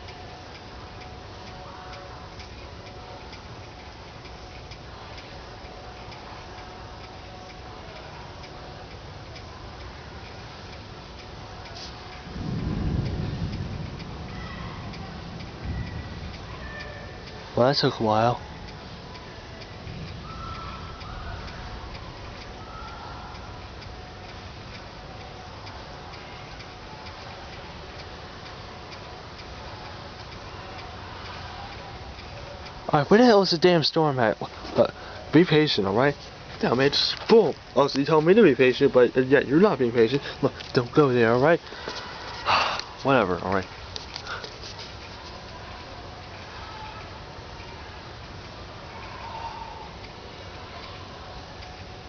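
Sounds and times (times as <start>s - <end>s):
faint ticking: 0.0s - 52.0s
rain hissing: 9.4s - 52.0s.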